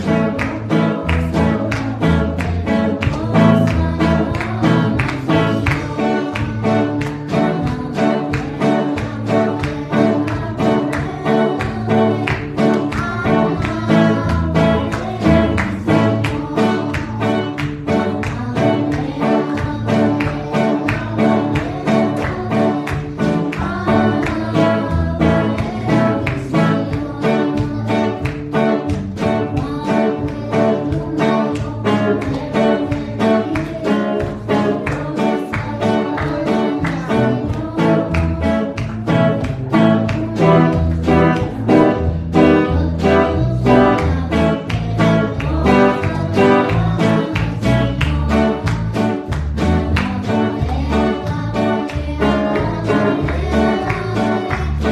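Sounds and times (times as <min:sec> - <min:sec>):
girl singing into a microphone: 0:00.0 - 0:54.9
strummed guitar with beat: 0:00.0 - 0:54.9.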